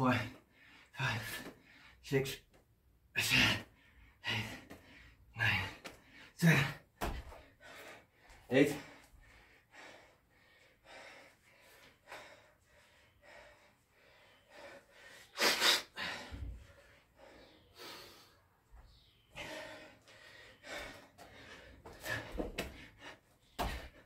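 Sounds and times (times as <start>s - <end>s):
man breathing hard: 0.0s - 2.0s, 3.2s - 24.0s.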